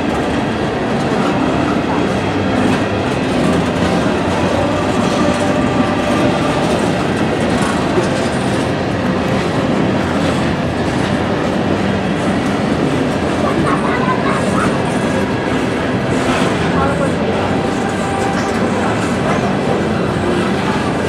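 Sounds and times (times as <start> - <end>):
steel wheels rolling on rails: 0.0 - 21.0.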